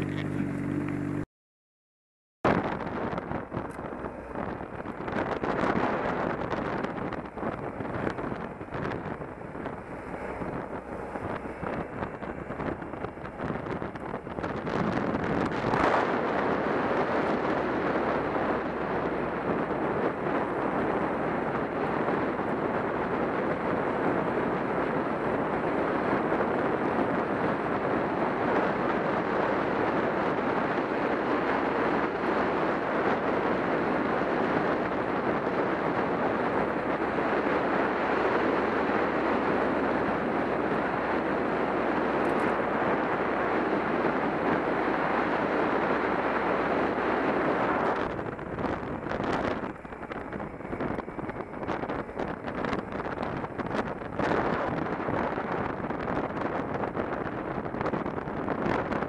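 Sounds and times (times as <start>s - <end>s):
motorcycle engine running: 0.0s - 1.2s, 2.5s - 59.0s
wind rushing over microphone: 2.4s - 59.0s.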